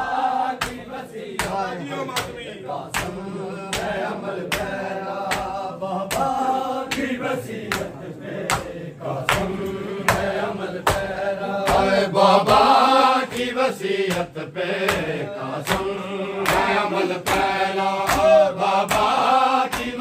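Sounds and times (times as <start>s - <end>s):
men chanting: 0.0s - 20.0s
people slapping their chests: 0.0s - 20.0s.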